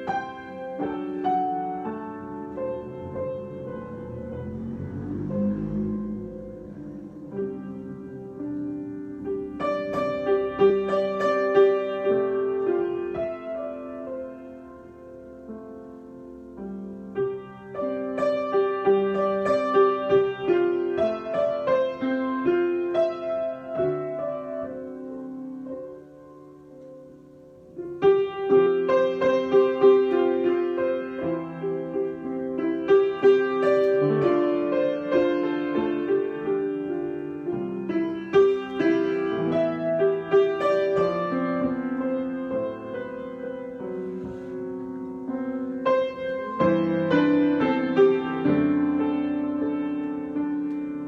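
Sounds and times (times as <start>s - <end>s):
solo piano improvisation: 0.0s - 51.0s.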